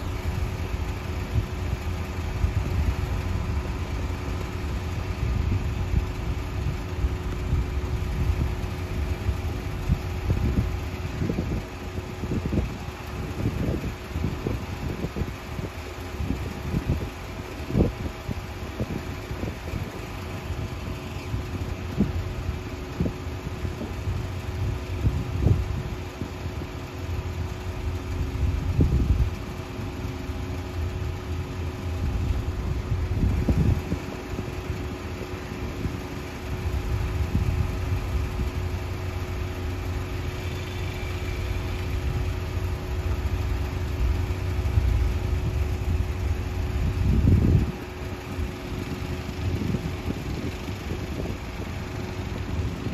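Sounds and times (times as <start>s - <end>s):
ship engine drone: 0.0s - 52.9s
wind buffeting microphone: 0.0s - 52.9s.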